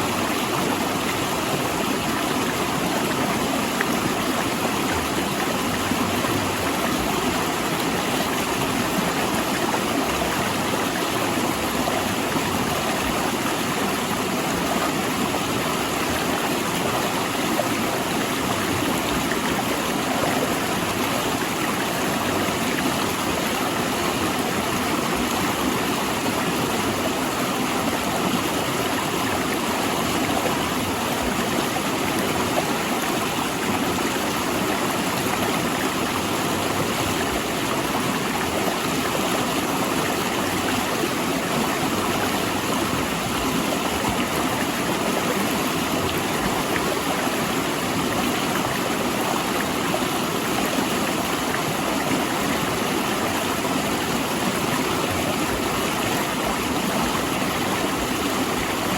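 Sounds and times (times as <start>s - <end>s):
river rushing between rocks: 0.0s - 58.9s.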